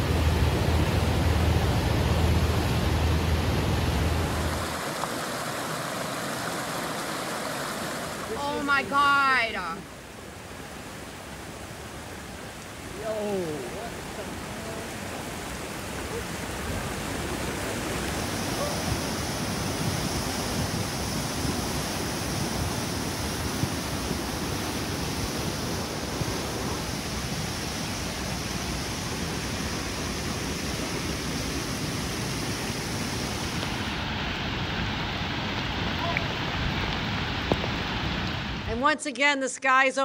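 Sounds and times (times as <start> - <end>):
floodwater rushing: 0.0 - 38.8.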